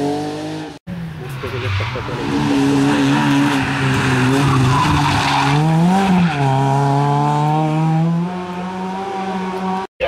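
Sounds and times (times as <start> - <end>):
rally car engine at high revs: 0.0 - 0.8, 1.5 - 9.9.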